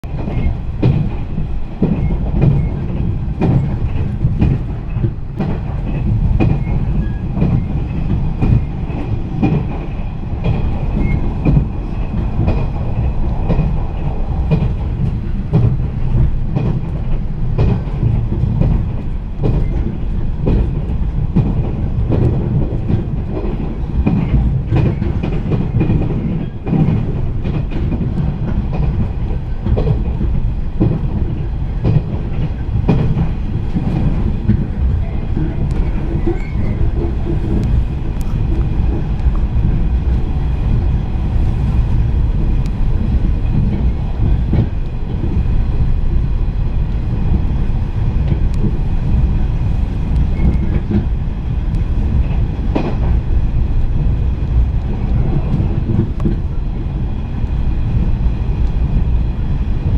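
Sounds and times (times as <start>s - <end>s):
train interior low rumble: 0.0s - 59.9s
wheels clacking over rail joints: 0.1s - 59.9s.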